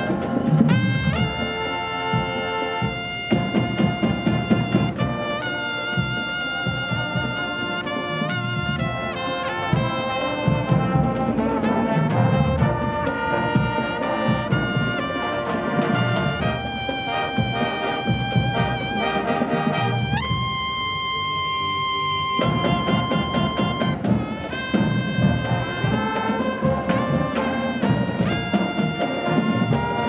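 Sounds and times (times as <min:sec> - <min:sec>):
marching band brass playing: 0:00.0 - 0:30.0.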